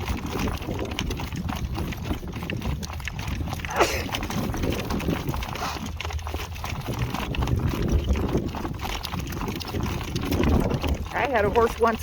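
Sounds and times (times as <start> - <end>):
horse hooves trotting: 0.0 - 12.0.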